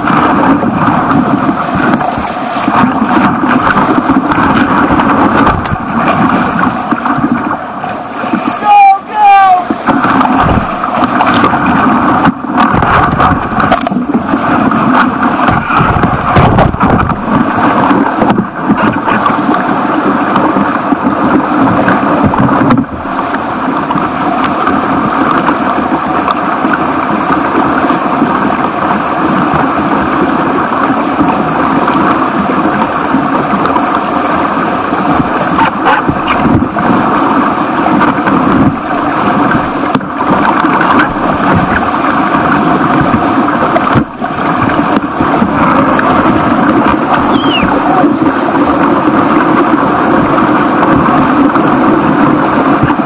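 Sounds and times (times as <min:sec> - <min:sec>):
water splashing against hull: 0:00.0 - 0:53.0
whitewater rapids rushing: 0:00.0 - 0:53.0.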